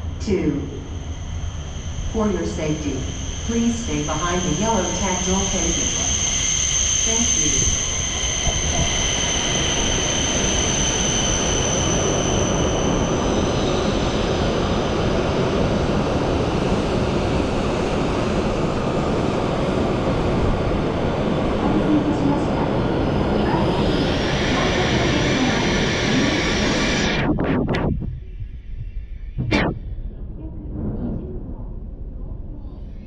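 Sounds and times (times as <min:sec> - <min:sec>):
train rushing past: 0:00.0 - 0:27.4
high whine: 0:00.0 - 0:31.6.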